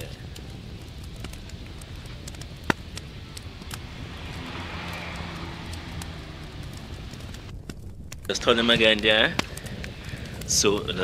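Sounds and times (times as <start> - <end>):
wind rumble on microphone: 0.0 - 11.0
wood fire crackling: 0.0 - 11.0.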